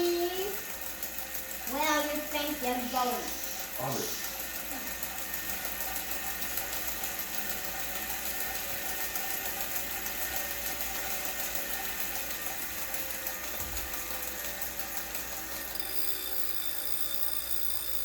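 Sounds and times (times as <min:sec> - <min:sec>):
bike trainer droning: 0:00.0 - 0:18.0.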